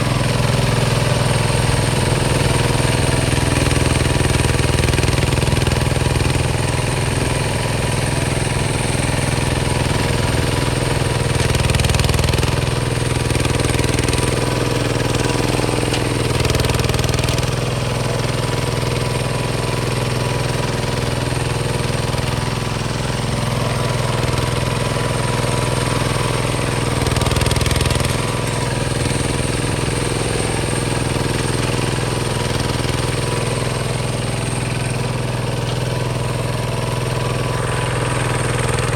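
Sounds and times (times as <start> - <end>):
diesel engine thumping: 0.0 - 38.9.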